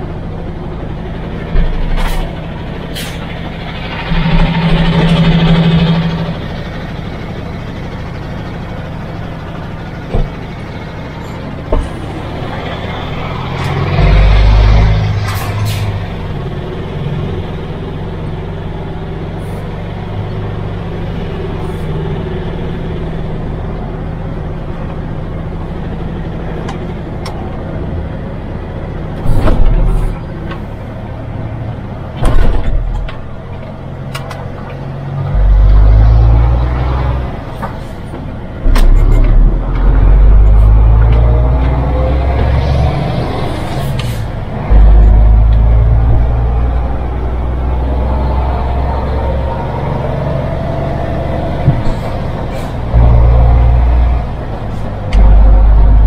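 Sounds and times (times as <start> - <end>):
low rumbles: 0.0 - 56.0
truck diesel engine running: 0.0 - 56.0.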